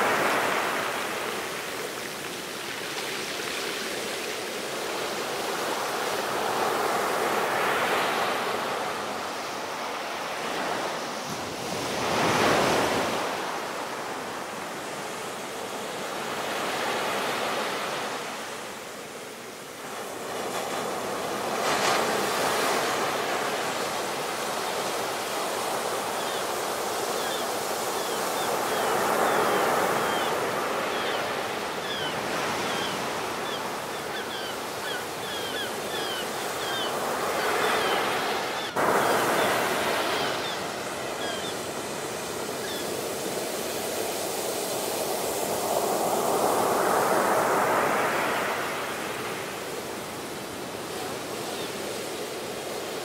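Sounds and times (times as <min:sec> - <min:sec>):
ocean waves crashing on beach: 0:00.0 - 0:53.0.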